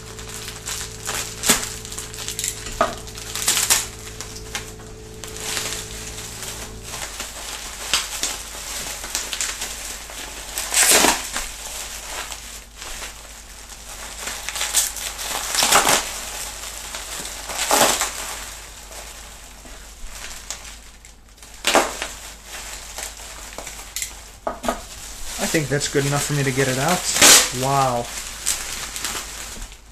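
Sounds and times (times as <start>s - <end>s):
bubble wrap crinkling: 0.0s - 29.9s
plastic crunches: 0.0s - 29.9s.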